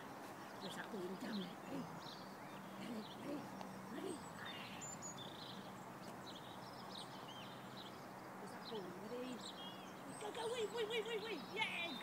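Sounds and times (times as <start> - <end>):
wild birds chirping: 0.0 - 12.0.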